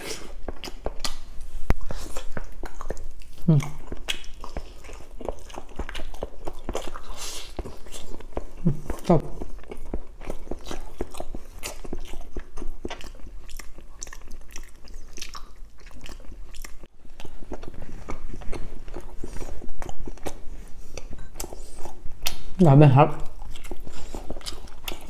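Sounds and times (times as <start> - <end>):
wet chewing: 0.0 - 25.0.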